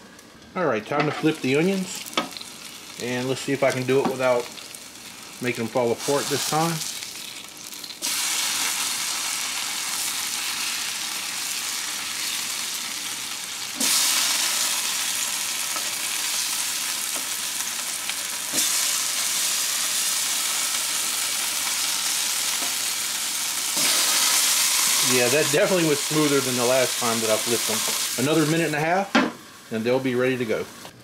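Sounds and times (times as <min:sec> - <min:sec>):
onions sizzling on griddle: 0:01.3 - 0:30.9.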